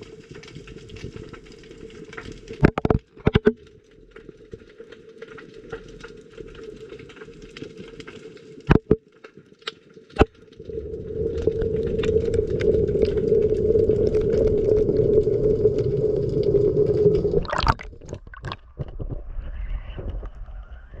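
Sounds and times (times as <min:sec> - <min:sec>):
underwater crackling: 0:00.0 - 0:19.3.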